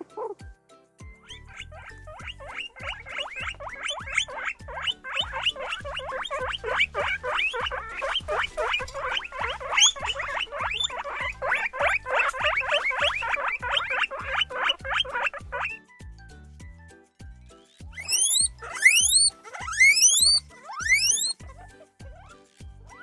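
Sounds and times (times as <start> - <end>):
guinea pig squeaking: 1.1 - 15.9, 17.8 - 23.0.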